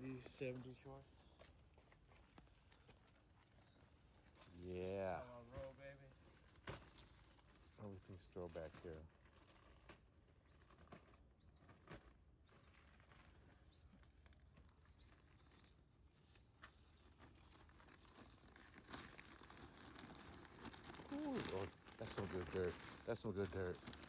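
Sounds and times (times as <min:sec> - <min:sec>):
soft rustling: 0:00.0 - 0:24.0.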